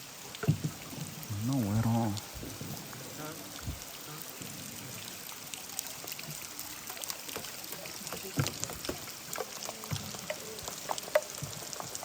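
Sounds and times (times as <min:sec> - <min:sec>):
steady watery hiss: 0:00.0 - 0:12.0
water dripping in a cave: 0:00.0 - 0:12.0.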